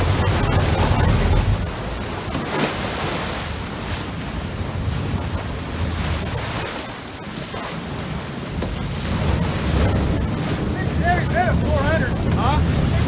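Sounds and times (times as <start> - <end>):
water churning and splashing: 0.0 - 13.0
wind on microphone: 0.0 - 13.0.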